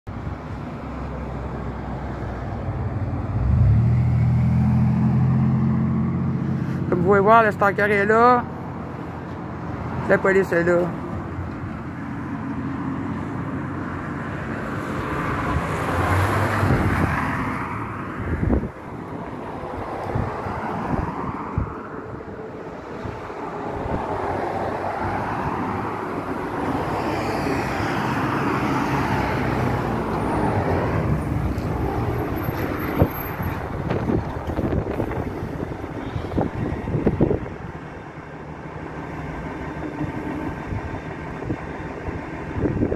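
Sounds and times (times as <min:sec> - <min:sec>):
cars driving past: 0:00.1 - 0:42.9.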